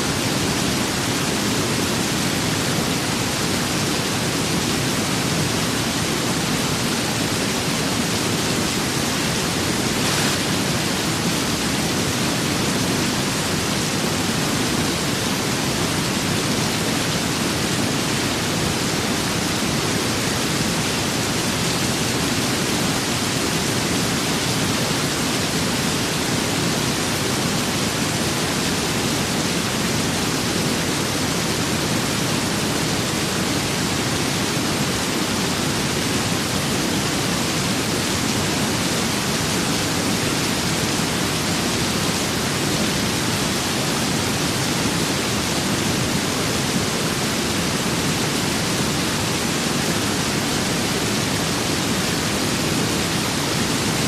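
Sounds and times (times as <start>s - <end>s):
steady rain with wind: 0.0s - 54.0s.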